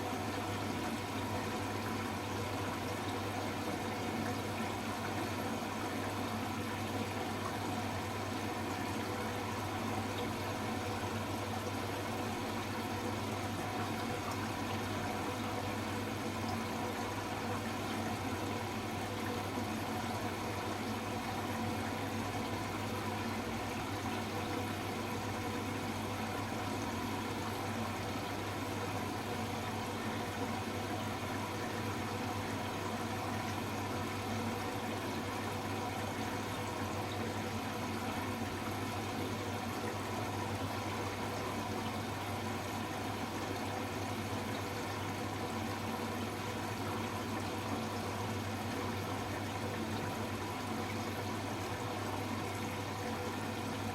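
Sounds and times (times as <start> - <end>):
washing machine humming: 0.0 - 53.9.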